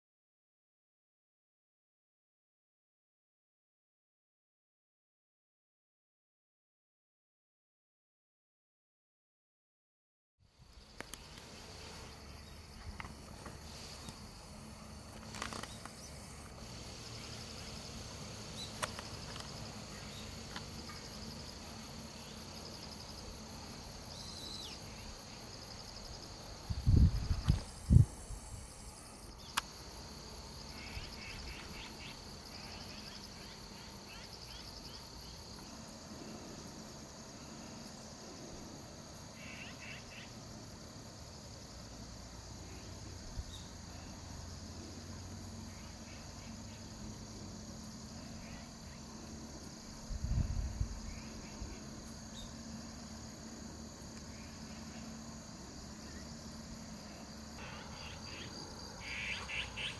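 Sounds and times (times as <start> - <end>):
insects chirping and trilling: 10.4 - 59.9.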